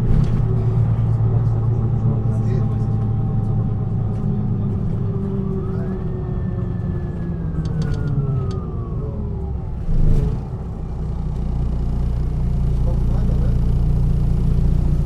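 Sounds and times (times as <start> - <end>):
bus engine drone with whine: 0.0 - 15.0.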